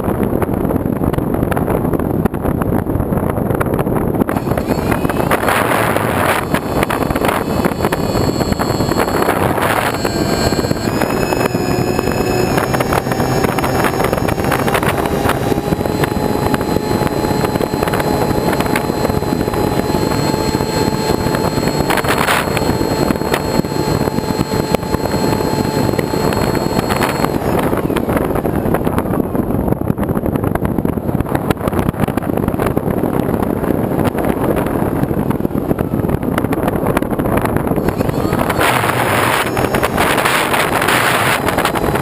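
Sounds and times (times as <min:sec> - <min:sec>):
engine whine: 0:00.0 - 0:42.0
wind on microphone: 0:00.0 - 0:42.0.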